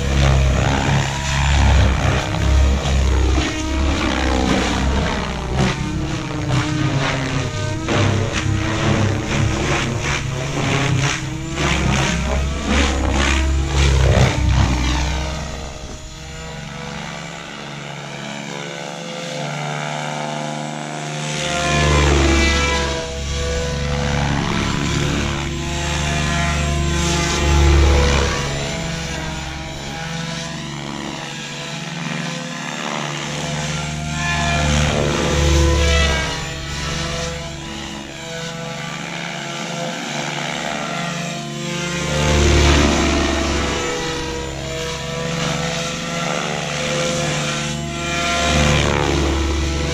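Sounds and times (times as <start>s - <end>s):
model helicopter rotor whine: 0.0s - 49.9s.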